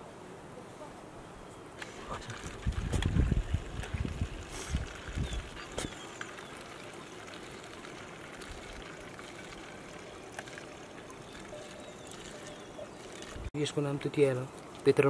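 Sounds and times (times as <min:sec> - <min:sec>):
liquid trickling into bottle: 0:01.9 - 0:13.5, 0:14.4 - 0:15.0.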